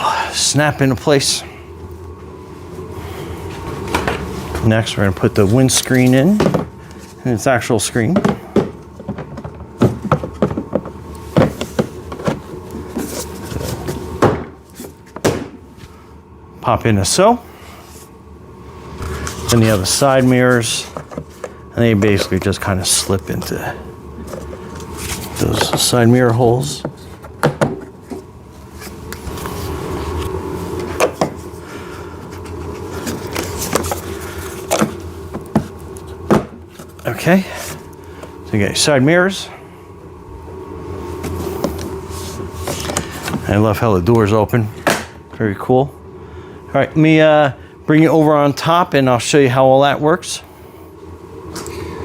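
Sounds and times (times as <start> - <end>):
low background hum: 0.0 - 52.0.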